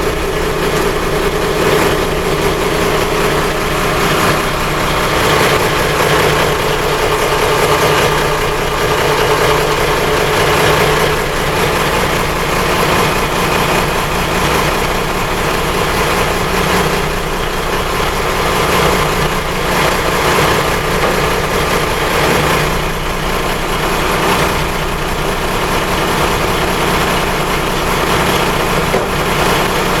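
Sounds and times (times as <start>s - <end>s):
boat engine idling: 0.0s - 30.0s.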